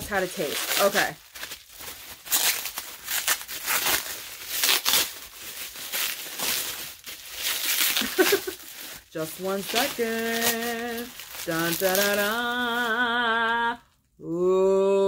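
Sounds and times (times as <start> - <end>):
plastic wrapping crinkling and tearing: 0.0 - 14.1.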